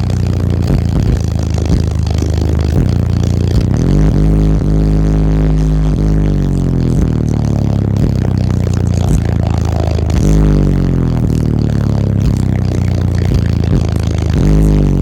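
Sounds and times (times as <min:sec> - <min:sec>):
loud bass-heavy music: 0:00.0 - 0:15.0.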